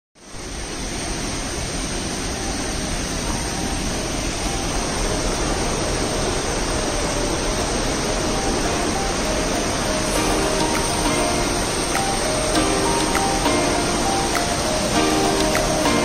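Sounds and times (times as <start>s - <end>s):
stream water rushing: 0.3s - 16.0s
faint musical notes: 2.2s - 16.0s.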